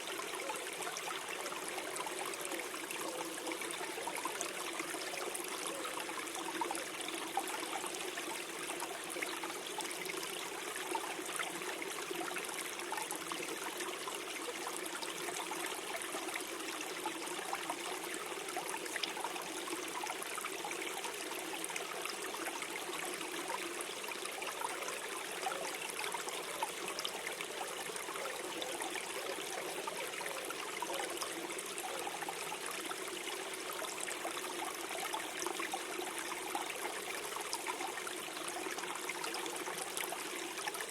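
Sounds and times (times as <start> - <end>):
stream gurgling over stones: 0.0 - 40.9.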